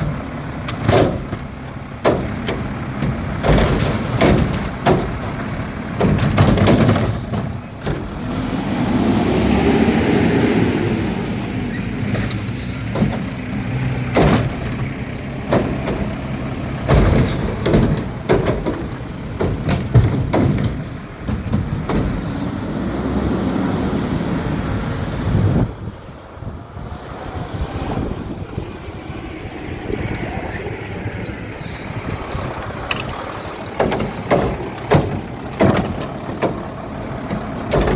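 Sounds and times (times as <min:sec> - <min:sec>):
garbage truck diesel engine: 0:00.0 - 0:37.9.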